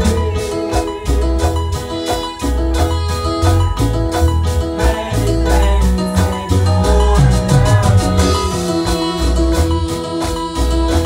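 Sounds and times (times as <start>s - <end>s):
heavy bass line: 0.0s - 11.0s
worship band playing upbeat music: 0.0s - 11.0s.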